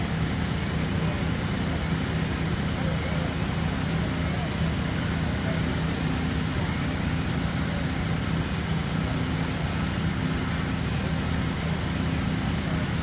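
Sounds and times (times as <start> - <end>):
fire engine engine running: 0.0 - 13.0.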